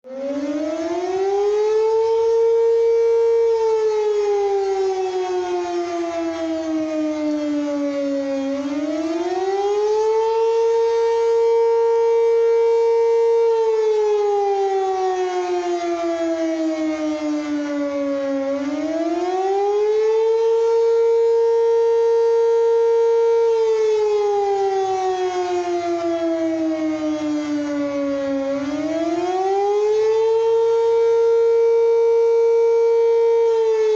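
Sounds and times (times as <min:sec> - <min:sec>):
civil defense siren wailing: 0:00.0 - 0:33.9.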